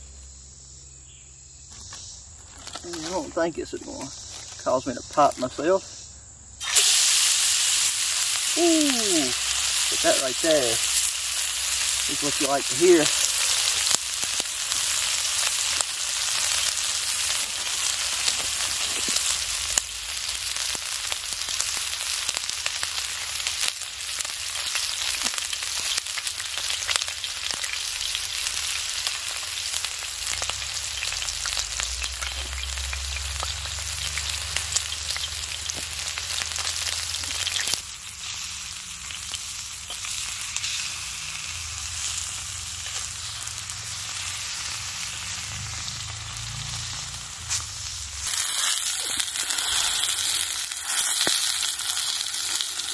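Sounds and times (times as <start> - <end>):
steak sizzling in oil: 6.6 - 52.9.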